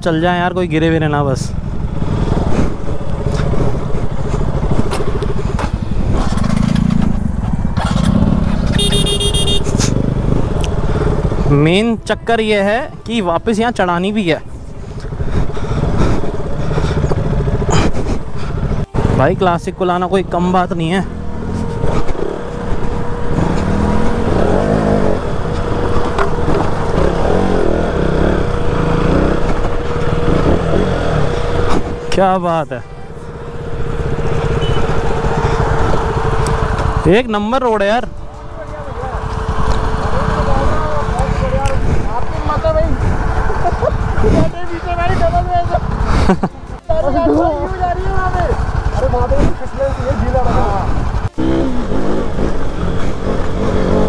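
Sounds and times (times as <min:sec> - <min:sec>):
motorcycle engine at low revs: 0:00.1 - 0:54.0.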